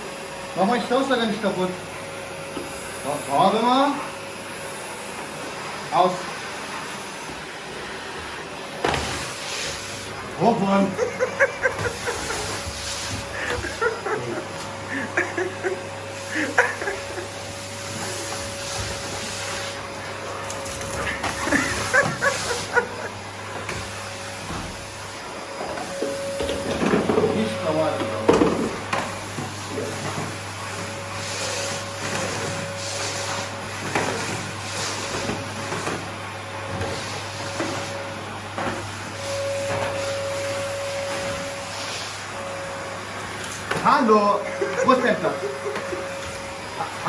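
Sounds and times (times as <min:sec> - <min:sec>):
vacuum cleaner whine: 0:00.0 - 0:47.0.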